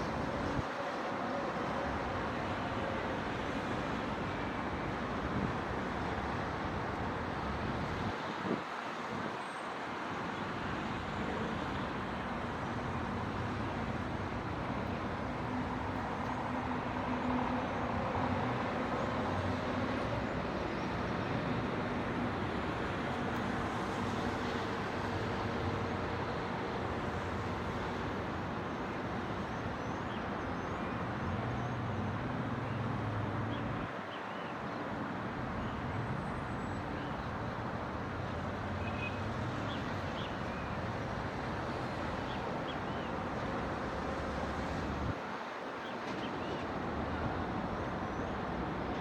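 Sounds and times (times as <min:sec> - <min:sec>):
distant road traffic: 0:00.0 - 0:49.0.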